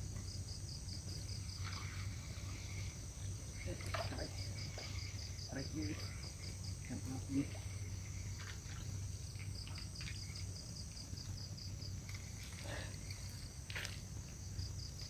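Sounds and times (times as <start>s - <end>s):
crickets chirring: 0.0s - 15.0s
low steady hum: 0.0s - 15.0s.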